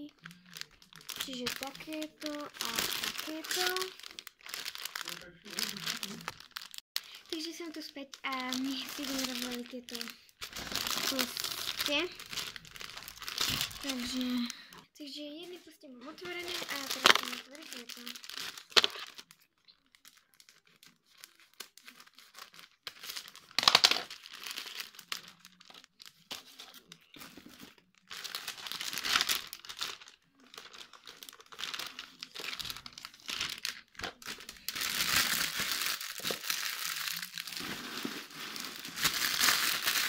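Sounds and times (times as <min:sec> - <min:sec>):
plastic packaging crinkling: 0:00.0 - 0:14.8, 0:16.1 - 0:40.0.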